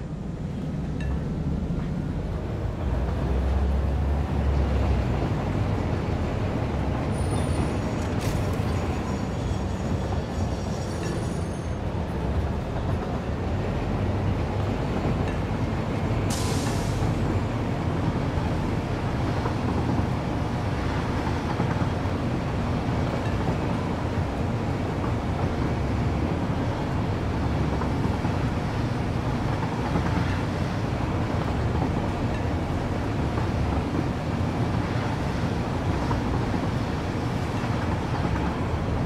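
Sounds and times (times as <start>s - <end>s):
vehicle rumble: 0.0s - 39.0s.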